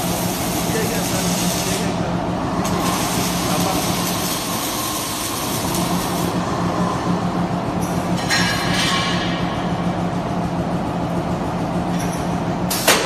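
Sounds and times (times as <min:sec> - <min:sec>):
welding machine hum and hiss: 0:00.0 - 0:13.0.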